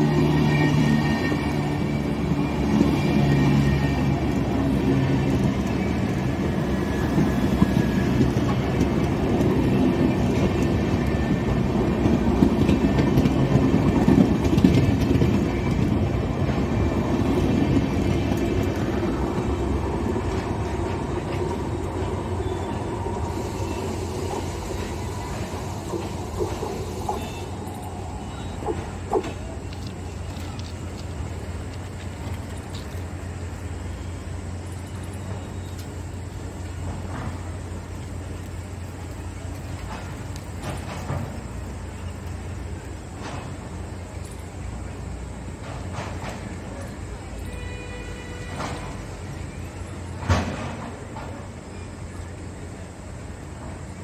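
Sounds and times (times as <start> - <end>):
train coaches passing: 0.0 - 54.0.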